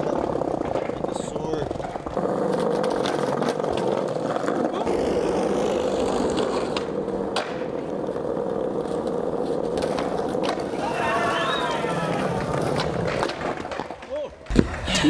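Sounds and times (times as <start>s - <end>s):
skateboard wheels rolling: 0.0s - 15.0s.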